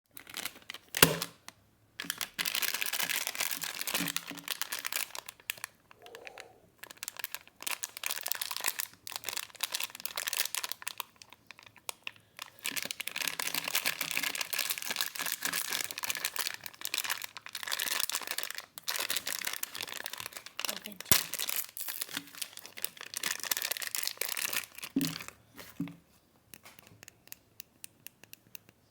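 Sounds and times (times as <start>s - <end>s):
packaging crinkling: 0.1s - 5.8s, 6.8s - 25.8s.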